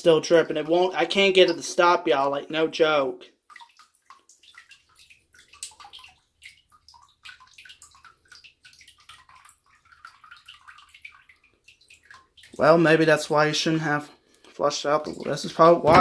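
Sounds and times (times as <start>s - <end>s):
water dripping and trickling: 0.0s - 16.0s.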